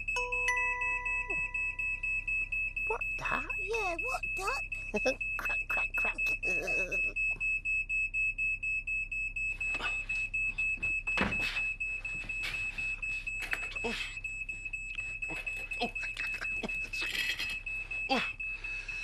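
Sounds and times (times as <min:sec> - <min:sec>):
smoke alarm beeping: 0:00.0 - 0:19.0.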